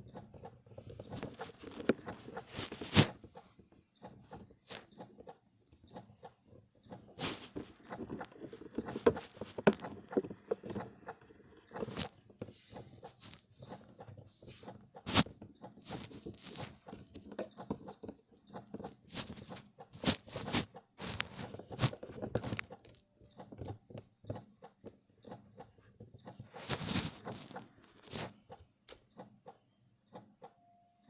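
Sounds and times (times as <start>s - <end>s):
plastic toys clicking and tapping: 0.0s - 30.6s
faint steady hiss: 0.0s - 31.0s.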